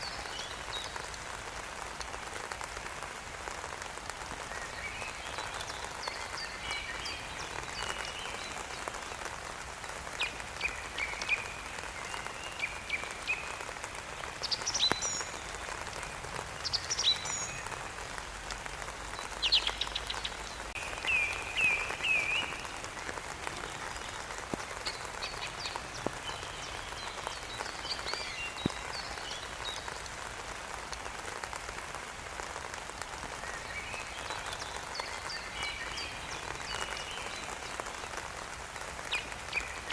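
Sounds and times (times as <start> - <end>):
songbirds chirping: 0.0 - 39.9
steady rain falling: 0.0 - 39.9.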